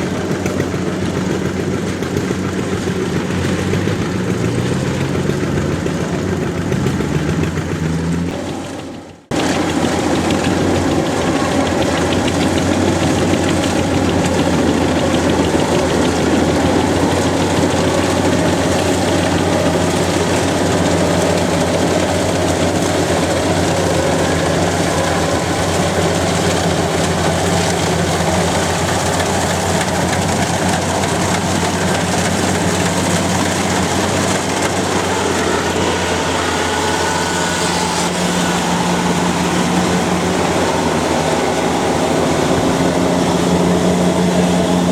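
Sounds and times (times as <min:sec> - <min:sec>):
combine harvester engine hum: 0:00.0 - 0:44.9.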